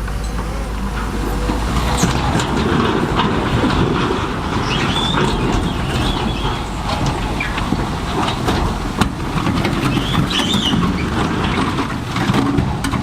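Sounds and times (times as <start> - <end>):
bulldozer diesel engine rumbling: 0.0 - 13.0
steel tracks clanking and squealing: 0.0 - 13.0.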